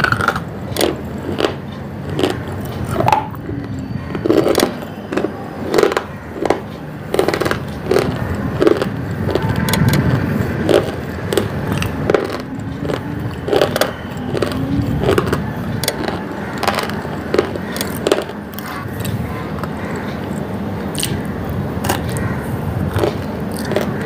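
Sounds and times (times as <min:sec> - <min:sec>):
crunchy chewing: 0:00.0 - 0:24.0
steady low rumble: 0:00.0 - 0:24.0.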